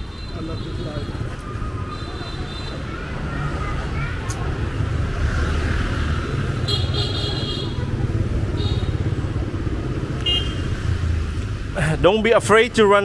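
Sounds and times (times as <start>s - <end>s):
motorbike engine rumble: 0.0s - 12.0s
road noise: 0.0s - 13.0s.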